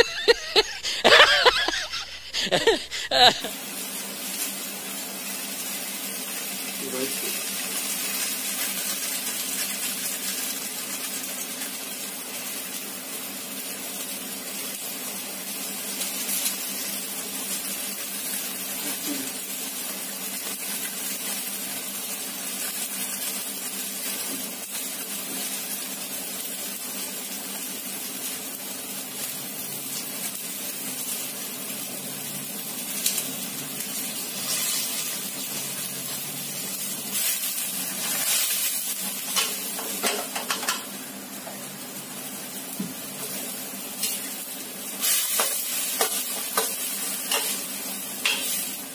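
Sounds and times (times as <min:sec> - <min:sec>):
vegetables sizzling in a wok: 0:00.0 - 0:48.9.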